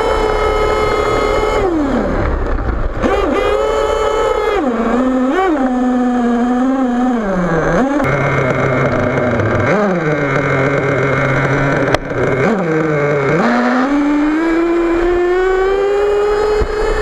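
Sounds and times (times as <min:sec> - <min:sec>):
small nitro engine revving: 0:00.0 - 0:17.0.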